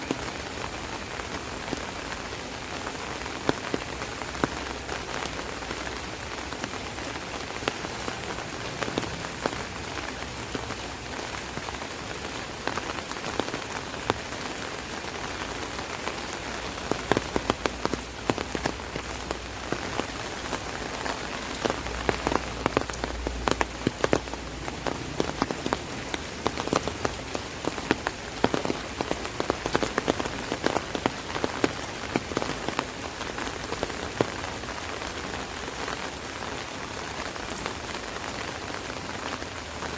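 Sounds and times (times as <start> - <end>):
rain hissing: 0.0 - 39.9
raindrops tapping on umbrella: 0.0 - 39.9.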